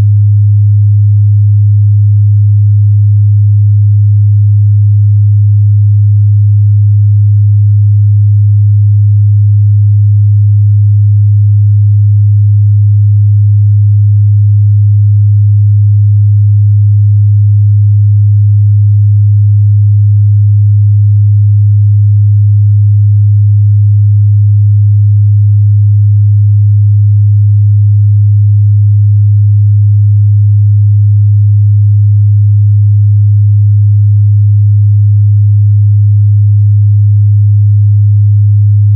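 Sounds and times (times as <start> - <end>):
low sine-wave test tone: 0.0 - 38.9.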